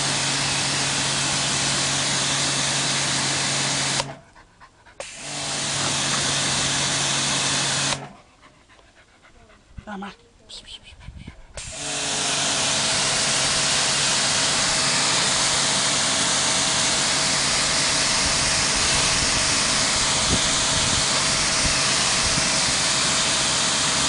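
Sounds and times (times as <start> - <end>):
pressure washer jet hissing: 0.0 - 4.1, 5.0 - 8.1, 11.6 - 24.0
pump motor humming: 0.0 - 4.2, 5.0 - 8.2, 11.6 - 24.0.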